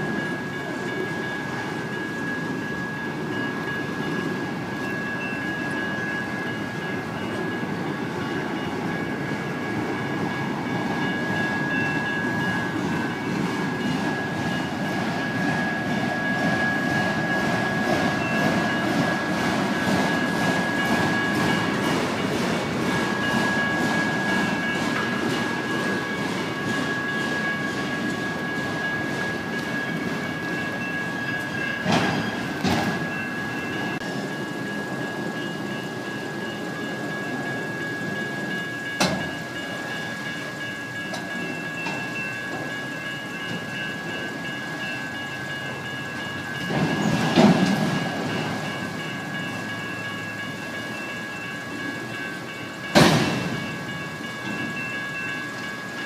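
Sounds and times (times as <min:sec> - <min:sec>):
crossing warning bells: 0:00.0 - 0:56.0
high-pitched ringing: 0:00.0 - 0:56.0
train wheels rumbling on rails: 0:00.0 - 0:56.0.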